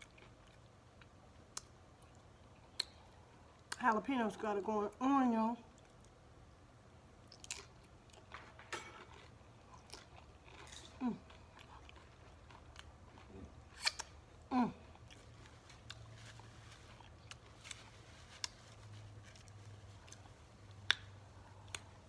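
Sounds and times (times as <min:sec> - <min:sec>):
person chewing chips: 0:00.0 - 0:03.8, 0:07.2 - 0:22.0.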